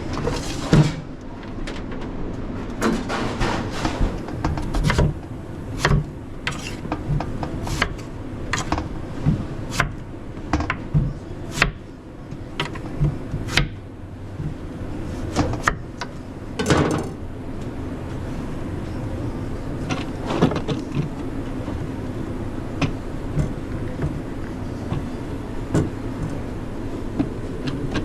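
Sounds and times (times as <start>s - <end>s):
steady kitchen hum: 0.0s - 28.0s.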